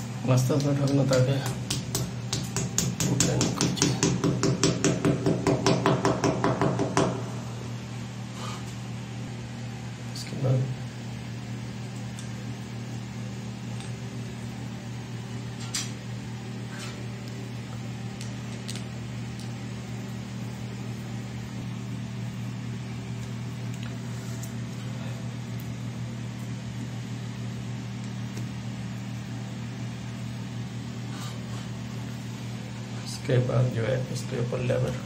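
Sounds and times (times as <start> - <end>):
low electric hum: 0.0 - 35.0.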